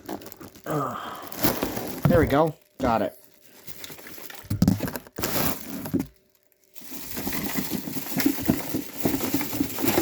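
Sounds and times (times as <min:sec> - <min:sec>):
cardboard packaging rustling: 0:00.0 - 0:10.0.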